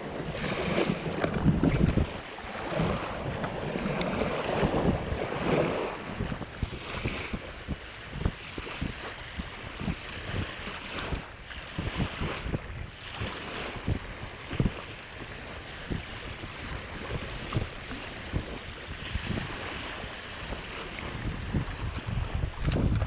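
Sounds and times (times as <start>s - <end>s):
small sea waves: 0.0s - 23.0s
wind buffeting microphone: 0.0s - 23.0s.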